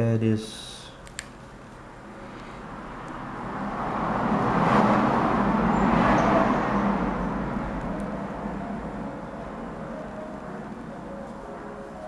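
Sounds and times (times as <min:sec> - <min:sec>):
road vehicle passing by: 0:01.7 - 0:12.0.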